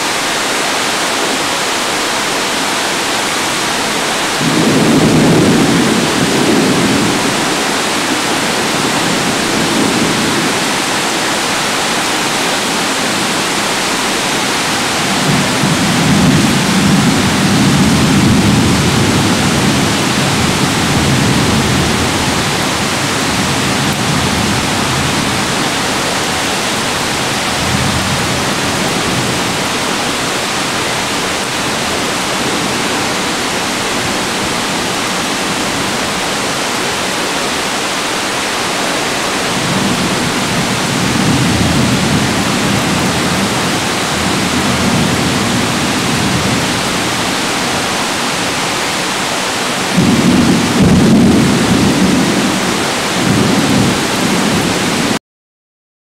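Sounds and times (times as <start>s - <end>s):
heavy rain pouring: 0.0s - 55.2s
thunder rumbling: 3.4s - 55.2s.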